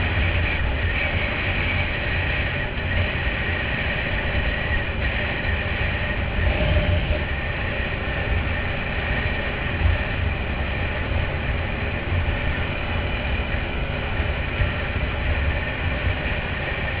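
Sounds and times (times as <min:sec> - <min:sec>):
quad bike engine rumbling: 0:00.0 - 0:17.0.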